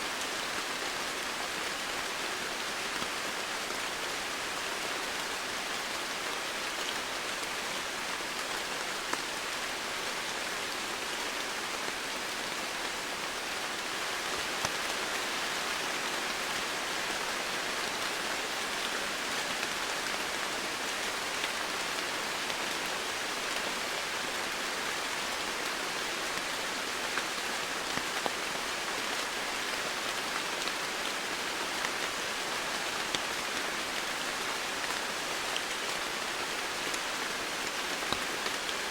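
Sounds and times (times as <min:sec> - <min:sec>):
steady rain on foliage: 0:00.0 - 0:38.9.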